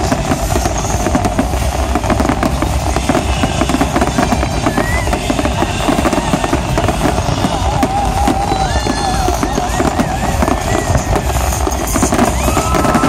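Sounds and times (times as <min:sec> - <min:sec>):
firework whistle: 0:00.0 - 0:13.0
fireworks bursting and crackling: 0:00.0 - 0:13.0
heavy rumble: 0:00.0 - 0:13.0.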